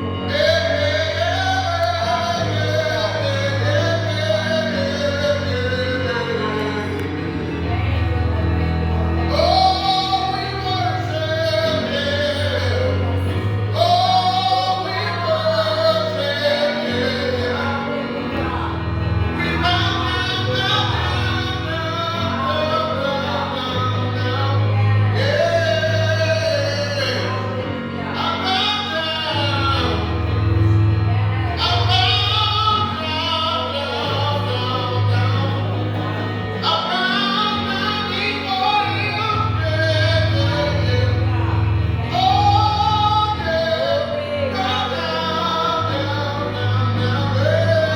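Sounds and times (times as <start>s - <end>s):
band playing gospel music: 0.0s - 47.9s
person singing: 0.0s - 47.9s
steady bass line: 0.0s - 47.9s.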